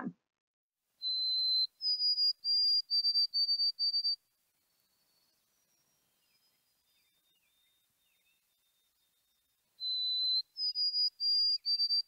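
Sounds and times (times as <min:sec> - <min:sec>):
sparrow whistling song: 0:01.0 - 0:12.0.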